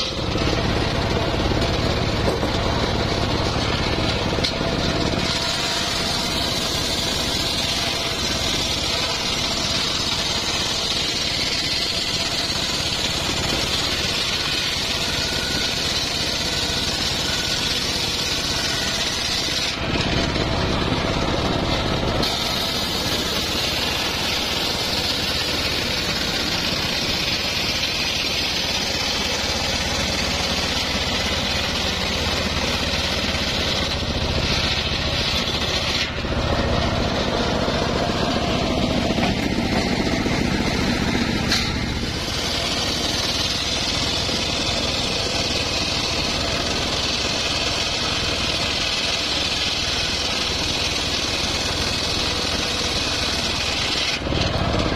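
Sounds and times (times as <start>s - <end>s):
drive motor droning: 0.0s - 54.9s
circular saw cutting wood hiss: 3.1s - 20.1s, 20.8s - 54.3s.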